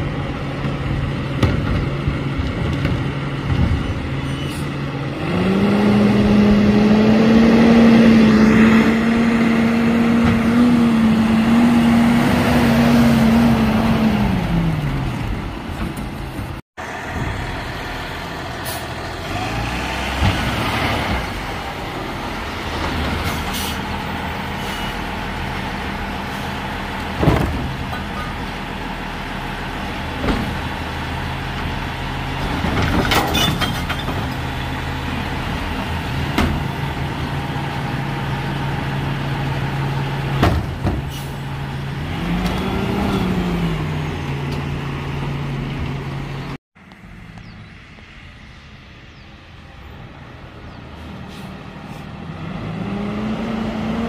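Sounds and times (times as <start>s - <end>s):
garbage truck running: 0.0s - 46.6s.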